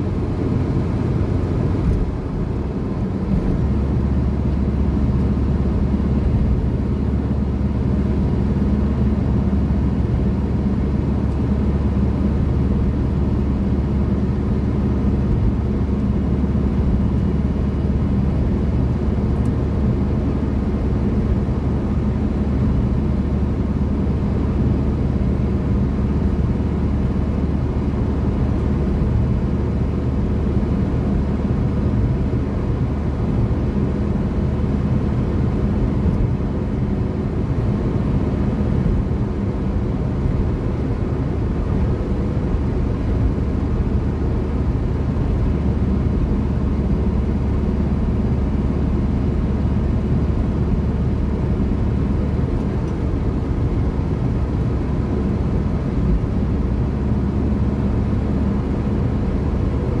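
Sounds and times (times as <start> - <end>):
car engine and tyres rumbling: 0.0 - 60.0.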